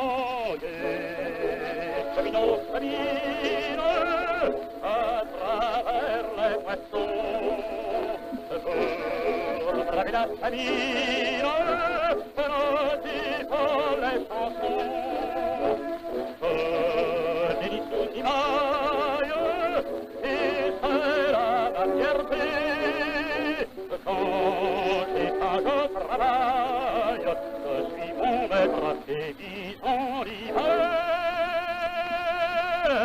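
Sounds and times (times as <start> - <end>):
instrumental accompaniment: 0.0 - 33.0
man singing with vibrato: 0.0 - 33.0.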